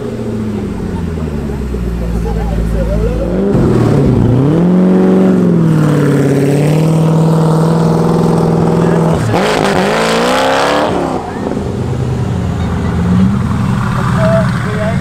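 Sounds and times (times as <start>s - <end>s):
sports car engine revving: 0.0s - 15.0s.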